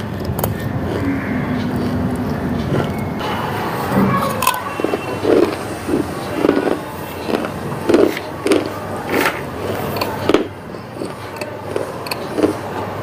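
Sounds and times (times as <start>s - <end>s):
person chewing crunchy food: 0.0s - 3.2s, 3.9s - 13.0s.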